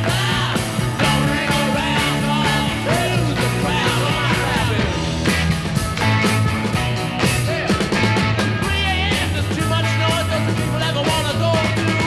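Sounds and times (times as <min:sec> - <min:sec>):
bass line: 0:00.0 - 0:12.0
rock and roll song: 0:00.0 - 0:12.0
steady drum beat: 0:00.0 - 0:12.0.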